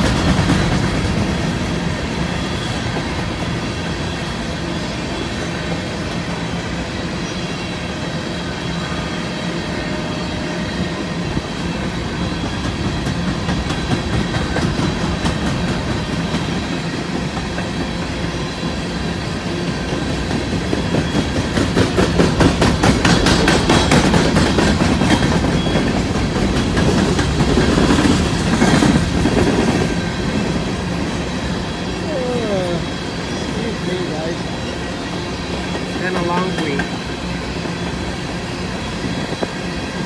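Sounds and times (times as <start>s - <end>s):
steel wheels clacking over rail joints: 0.0s - 4.2s, 11.6s - 40.0s
freight cars rumbling: 0.0s - 40.0s.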